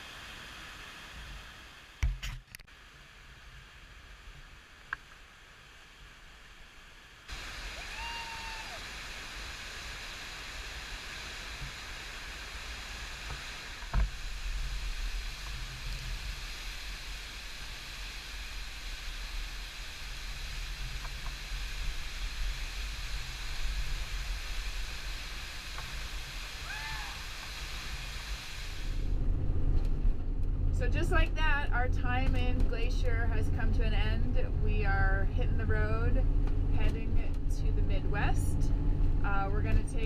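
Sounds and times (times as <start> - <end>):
steady rushing noise: 0.0 - 40.0
low rumble: 7.4 - 40.0.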